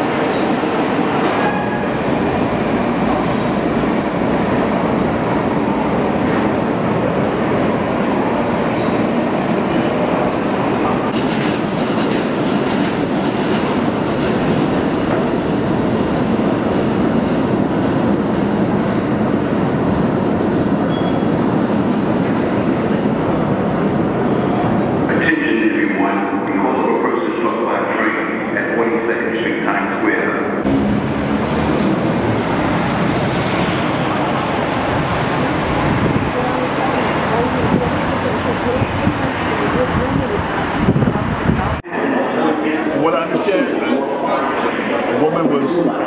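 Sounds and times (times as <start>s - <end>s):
subway train wheels rumbling: 0.0s - 46.0s.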